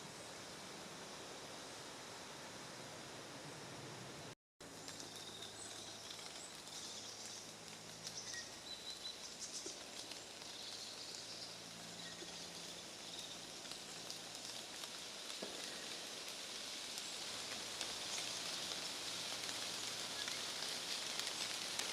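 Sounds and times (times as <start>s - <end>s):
steady hiss: 0.0s - 21.9s.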